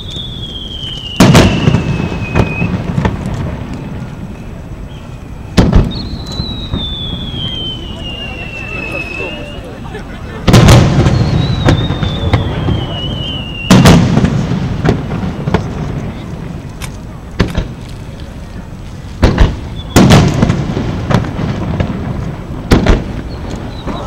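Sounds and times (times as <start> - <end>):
firework whistle: 0.0 - 16.4, 19.3 - 24.0
fireworks booming: 0.0 - 24.0
fireworks cracks: 0.0 - 24.0.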